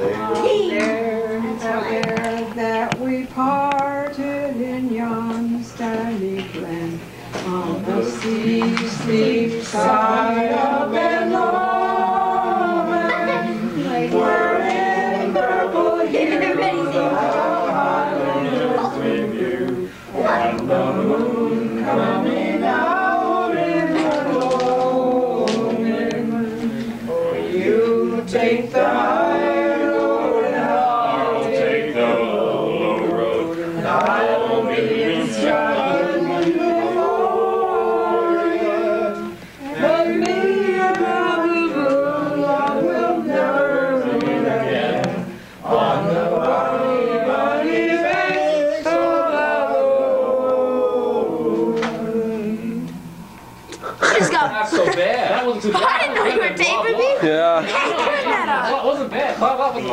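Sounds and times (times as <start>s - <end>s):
group singing without instruments: 0.0s - 59.9s.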